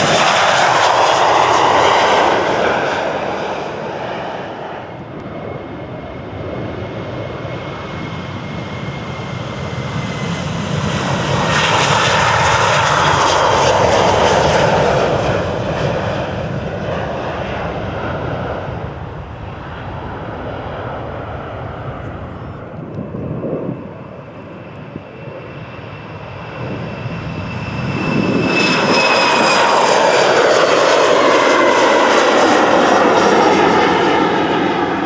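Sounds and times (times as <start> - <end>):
jet engines passing by: 0.0 - 35.0.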